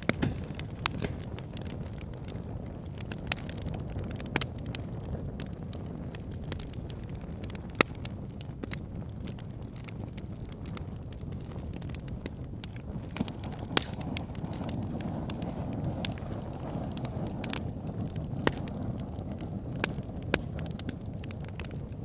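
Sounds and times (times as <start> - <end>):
low rush of flame: 0.0 - 22.0
wood fire pops and snaps: 0.0 - 22.0.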